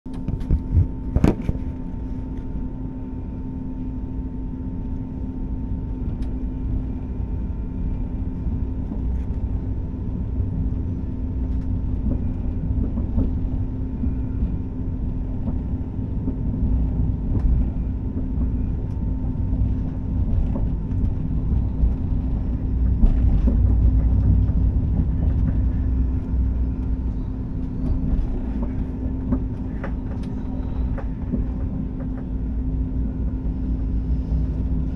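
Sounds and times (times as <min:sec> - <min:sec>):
steady hum: 0:00.1 - 0:34.9
train wheels rumbling on rails: 0:06.0 - 0:34.9.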